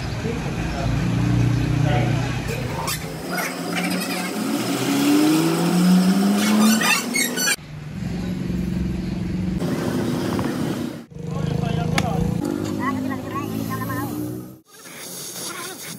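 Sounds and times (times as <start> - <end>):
vehicle engine accelerating: 0.0 - 14.6.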